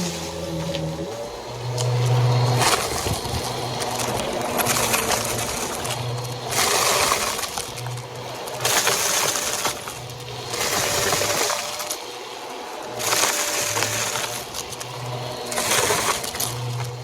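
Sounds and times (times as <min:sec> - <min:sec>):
grit rattling through nozzle: 0:00.0 - 0:17.0
vacuum cleaner whine: 0:00.0 - 0:17.0.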